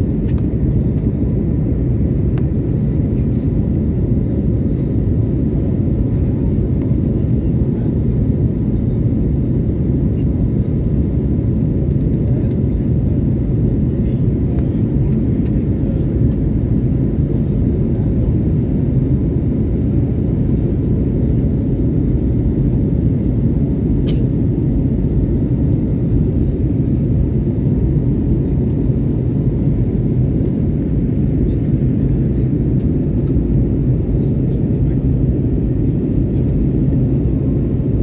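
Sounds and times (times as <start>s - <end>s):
jet engines rumbling: 0.0s - 38.0s.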